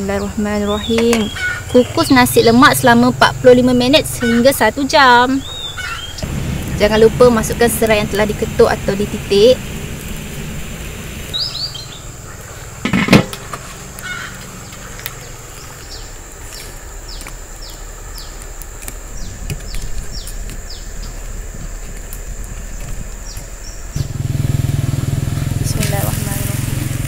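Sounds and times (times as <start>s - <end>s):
bird chirping: 0.0s - 12.8s, 13.9s - 21.6s, 22.6s - 24.2s.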